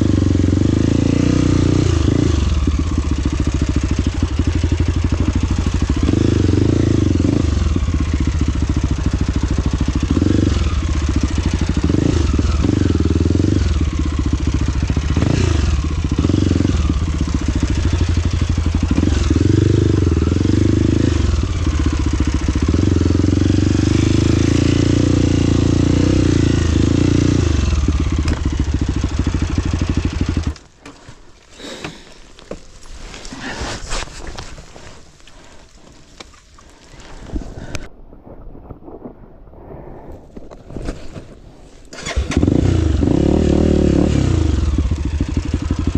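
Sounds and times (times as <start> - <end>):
motorcycle engine revving: 0.0 - 34.5, 41.9 - 45.9.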